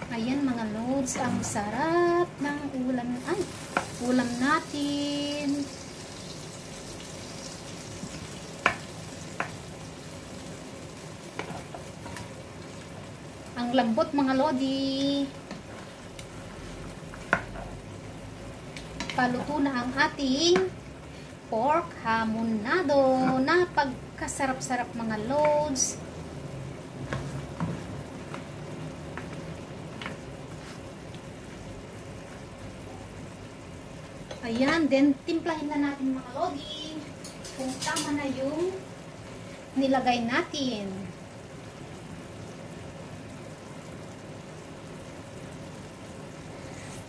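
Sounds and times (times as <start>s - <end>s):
sauce sizzling in a pan: 0.1s - 47.0s.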